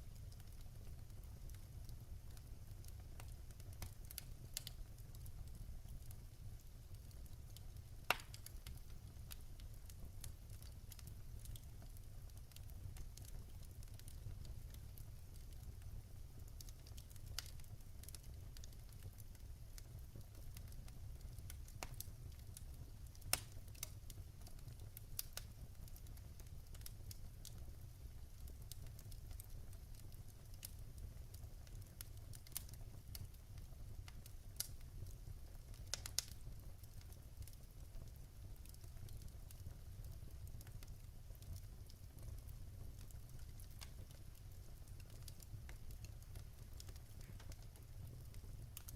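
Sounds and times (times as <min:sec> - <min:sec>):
fire low rumble: 0:00.0 - 0:48.9
wood fire crackling and popping: 0:00.0 - 0:48.9.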